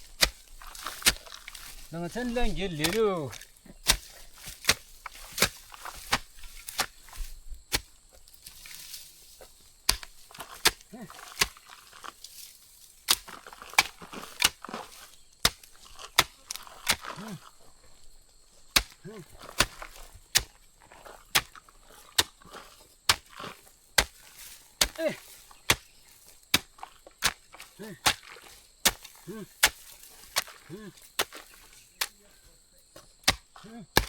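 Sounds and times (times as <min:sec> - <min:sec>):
hand tool chopping: 0:00.0 - 0:09.1, 0:09.8 - 0:17.5, 0:18.7 - 0:34.0.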